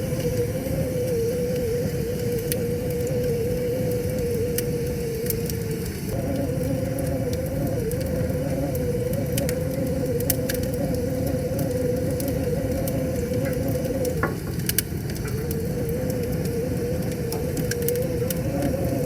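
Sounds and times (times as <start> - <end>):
wavering whistle-like tone: 0.0 - 14.4, 15.2 - 19.0
wood fire crackling and popping: 0.0 - 19.0.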